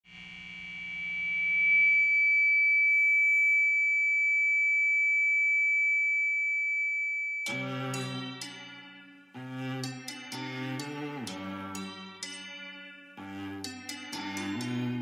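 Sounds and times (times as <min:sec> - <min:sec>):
high-pitched electronic ringing tone: 0:00.1 - 0:15.0.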